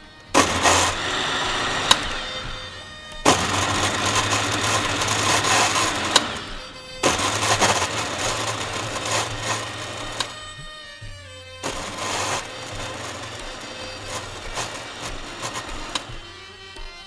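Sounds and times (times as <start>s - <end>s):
blender motor running: 0.0s - 17.0s.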